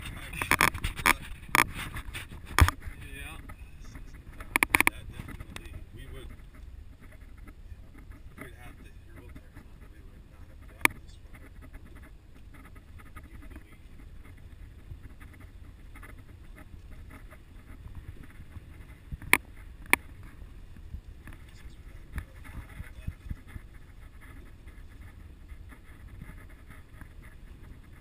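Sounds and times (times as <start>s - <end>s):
crackles: 0.0s - 28.0s
vehicle engine and tyres rumbling: 0.0s - 28.0s.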